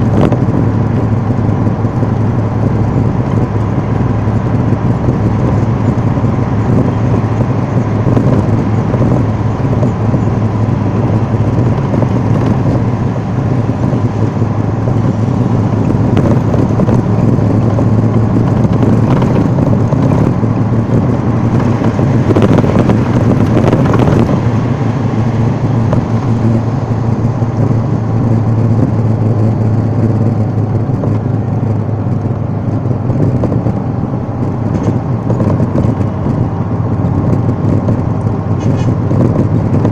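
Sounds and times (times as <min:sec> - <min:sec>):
engine drone: 0:00.0 - 0:39.9
road noise: 0:00.0 - 0:39.9.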